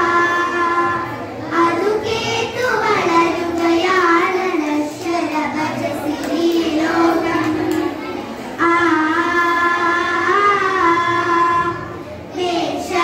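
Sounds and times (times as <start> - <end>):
girls singing in unison: 0.0 - 13.0.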